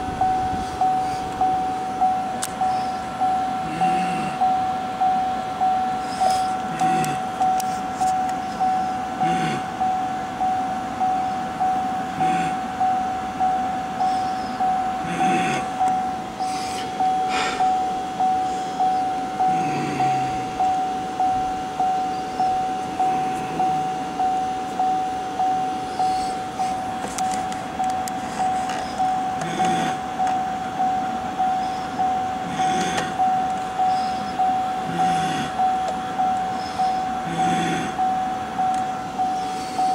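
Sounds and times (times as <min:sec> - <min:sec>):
car warning chime: 0:00.0 - 0:39.9.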